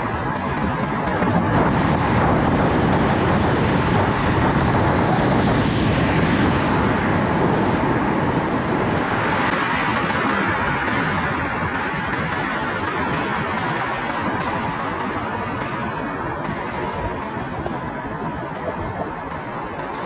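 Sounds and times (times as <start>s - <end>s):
car road and tyre noise: 0.0s - 20.0s.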